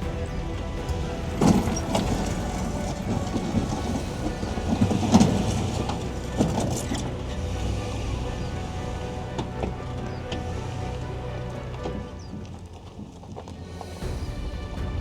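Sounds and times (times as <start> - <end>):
vehicle jolts and rattles: 0.0 - 15.0
vehicle rumbling over dirt: 0.0 - 15.0.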